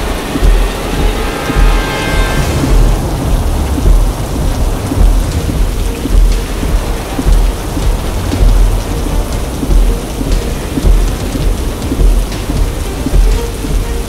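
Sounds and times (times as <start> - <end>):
heavy rain on car windshield: 0.0 - 14.0
low rumble: 0.0 - 14.0.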